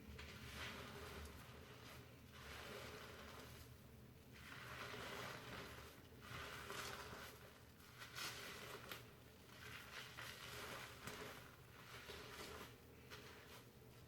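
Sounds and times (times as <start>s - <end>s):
shampoo lather rustling in hair: 0.0s - 14.0s.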